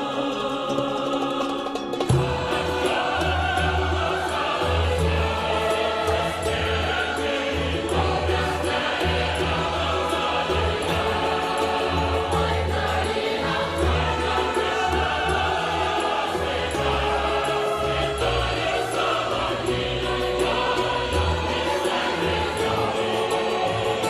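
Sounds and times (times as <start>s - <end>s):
choir singing held notes: 0.0s - 24.0s.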